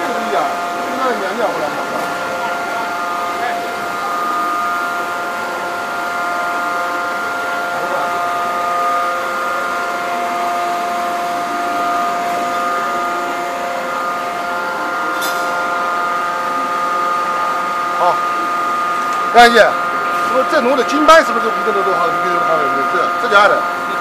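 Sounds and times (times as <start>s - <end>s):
machinery drone: 0.0s - 24.0s
steady whining tones: 0.0s - 24.0s.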